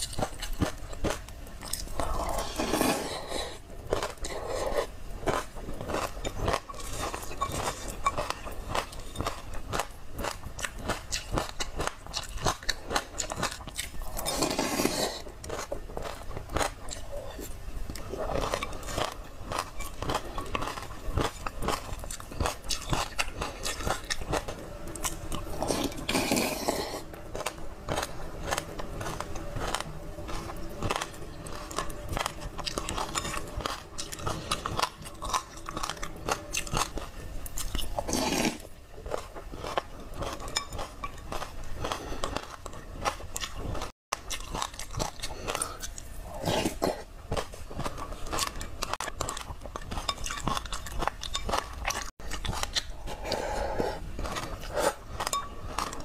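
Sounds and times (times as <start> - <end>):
chewing crunchy grains: 0.0 - 56.0.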